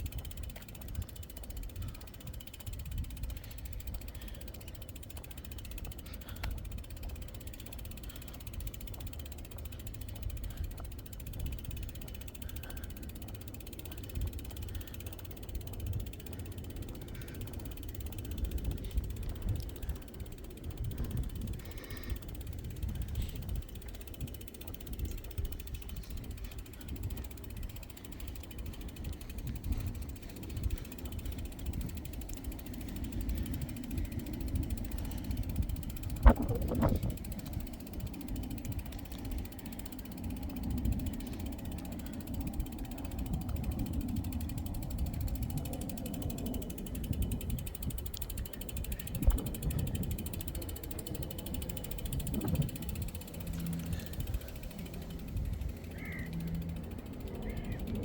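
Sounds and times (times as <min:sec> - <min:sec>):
bicycle freewheel ticking: 0:00.0 - 0:58.0.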